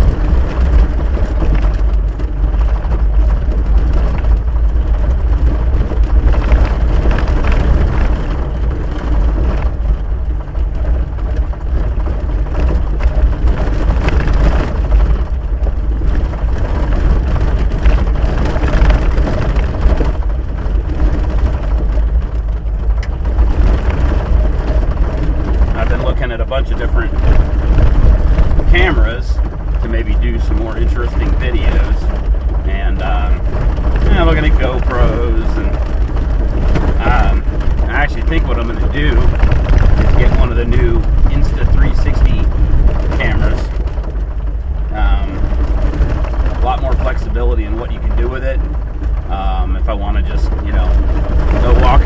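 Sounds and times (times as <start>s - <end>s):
vehicle rumbling on gravel road: 0.0s - 52.0s.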